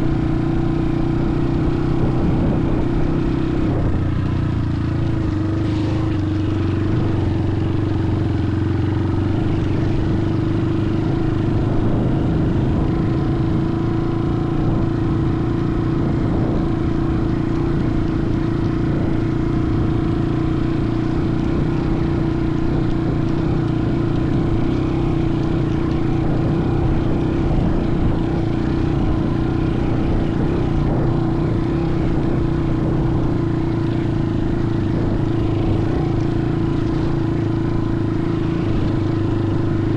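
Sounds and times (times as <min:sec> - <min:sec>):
motor droning hum: 0:00.0 - 0:39.9.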